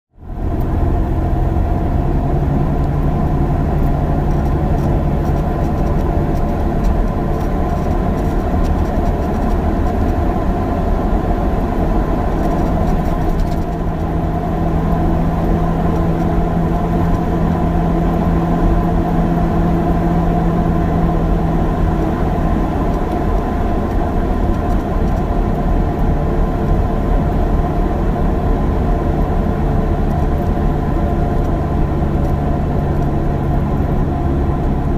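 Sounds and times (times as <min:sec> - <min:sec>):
road rumble: 0:00.1 - 0:34.9
bus engine running: 0:00.2 - 0:34.9.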